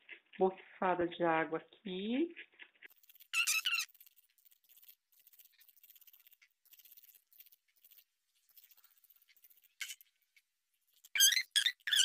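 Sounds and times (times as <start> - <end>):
fingers rubbing wet leaves: 2.3 - 12.0.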